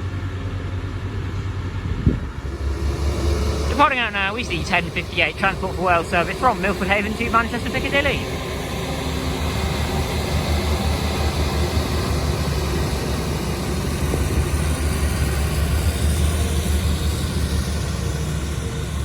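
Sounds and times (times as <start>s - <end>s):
diesel train engine drone: 0.0s - 19.0s.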